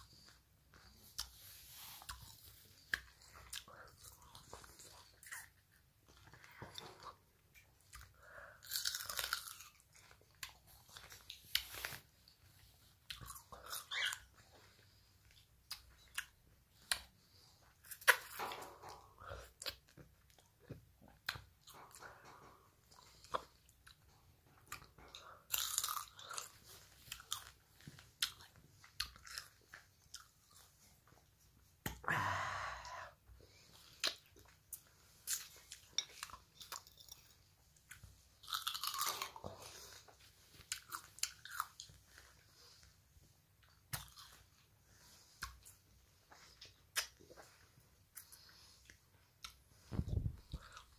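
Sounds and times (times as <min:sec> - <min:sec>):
chewing and crunching: 0:00.0 - 0:31.2, 0:33.5 - 0:43.0, 0:43.6 - 0:50.9.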